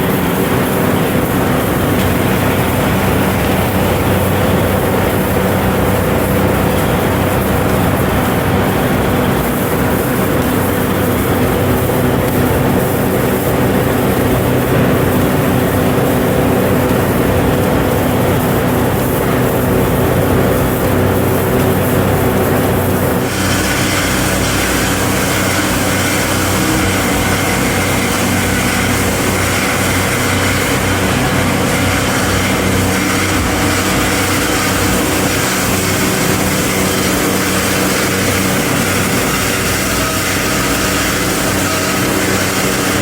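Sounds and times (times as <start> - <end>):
factory machinery humming: 0.0 - 43.0.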